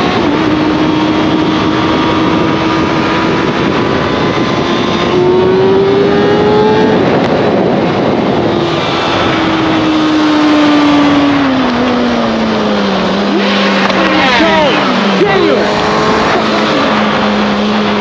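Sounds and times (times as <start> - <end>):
loud rushing noise: 0.0 - 18.0
motorcycle engine accelerating: 0.0 - 18.0.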